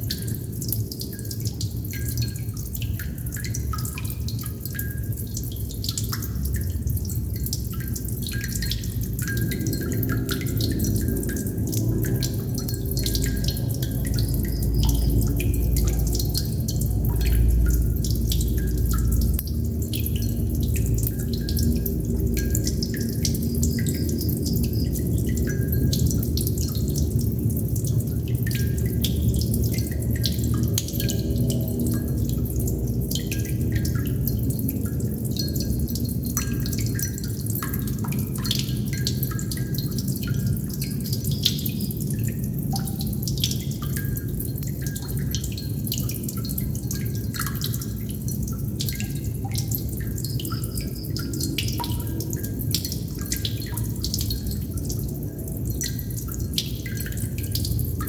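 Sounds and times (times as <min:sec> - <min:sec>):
water droplets dripping: 0:00.0 - 0:58.0.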